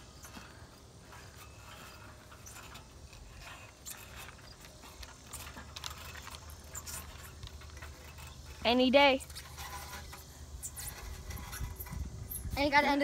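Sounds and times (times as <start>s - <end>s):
metal swing chains clinking: 0.0s - 13.0s.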